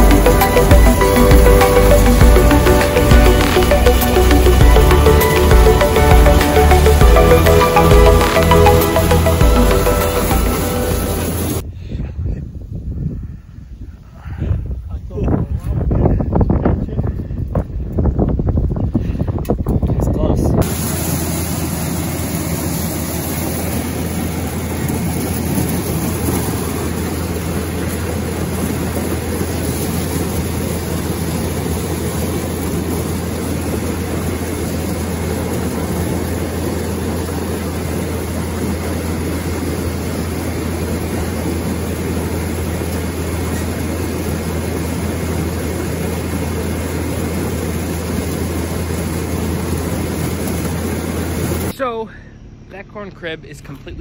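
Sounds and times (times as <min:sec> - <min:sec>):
corn elevator machinery drone: 0:00.0 - 0:11.6, 0:20.0 - 0:54.0.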